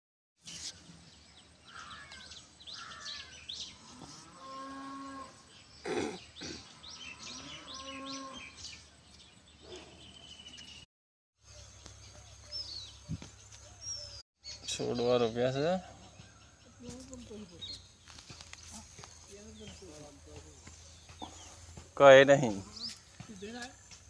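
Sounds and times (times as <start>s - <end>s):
birds chirping: 0.4s - 24.0s.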